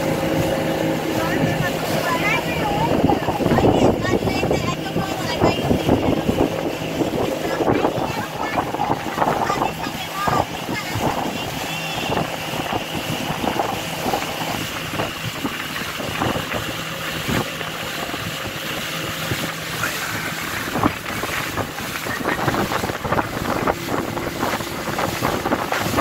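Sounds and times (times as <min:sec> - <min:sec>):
boat engine running: 0:00.0 - 0:26.0
water splashing: 0:00.0 - 0:26.0
wind buffeting microphone: 0:00.0 - 0:26.0.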